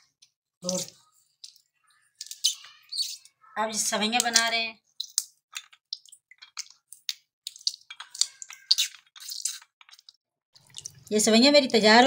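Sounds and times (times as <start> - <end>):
batter dripping into water: 0.0 - 12.0.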